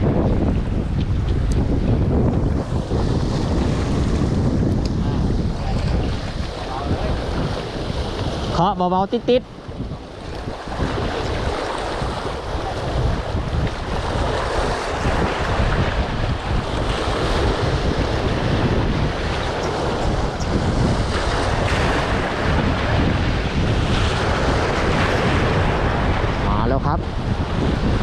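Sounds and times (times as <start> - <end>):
waves rushing on shore: 0.0 - 28.0
wind buffeting microphone: 0.0 - 28.0.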